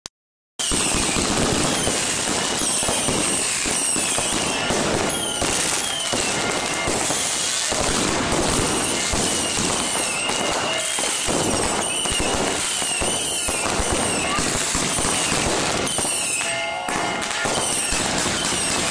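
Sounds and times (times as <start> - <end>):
fireworks cracking and banging: 0.6 - 18.9
whistling fireworks: 0.6 - 18.9.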